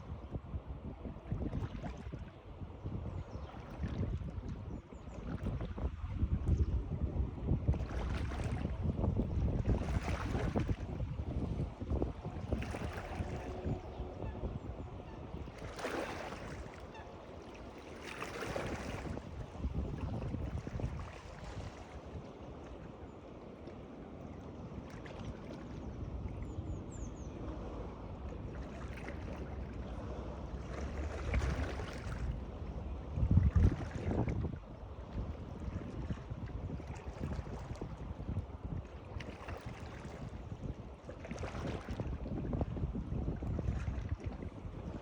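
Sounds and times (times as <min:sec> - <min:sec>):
wind on microphone: 0:00.0 - 0:17.0, 0:17.6 - 0:22.9, 0:24.8 - 0:45.0
water washing and lapping: 0:07.4 - 0:26.6, 0:27.4 - 0:45.0.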